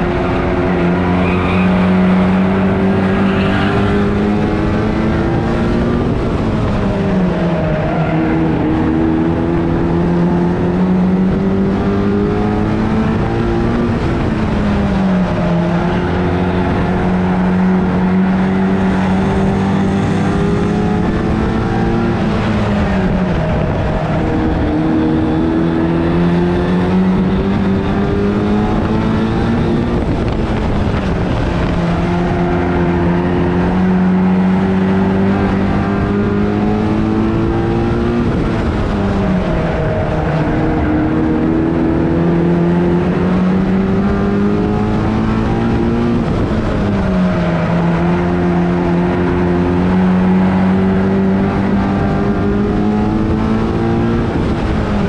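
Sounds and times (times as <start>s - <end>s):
race car engine: 0.0s - 55.0s.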